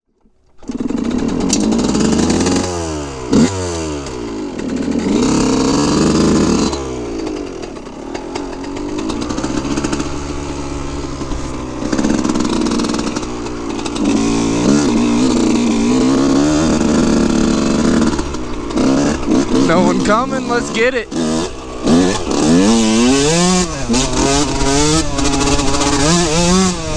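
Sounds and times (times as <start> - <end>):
motorcycle engine revving: 0.5 - 26.9.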